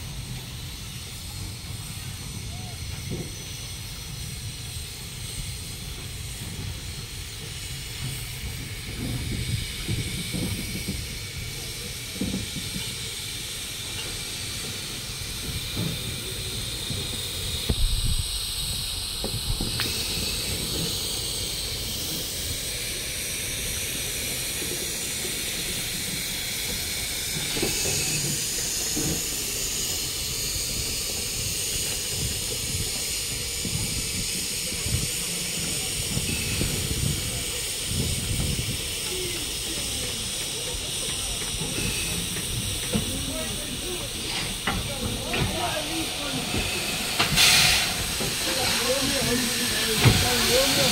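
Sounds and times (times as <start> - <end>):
steam hissing: 0.0 - 50.9.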